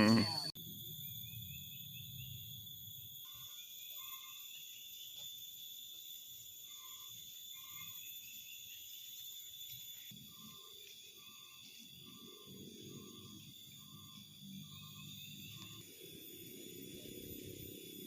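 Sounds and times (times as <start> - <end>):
insects shrilling: 0.0 - 18.0.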